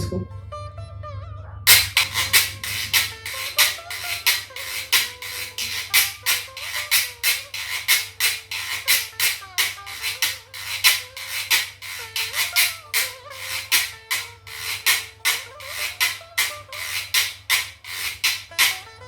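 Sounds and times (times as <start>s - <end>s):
guiro scraped with a stick: 1.7s - 18.9s.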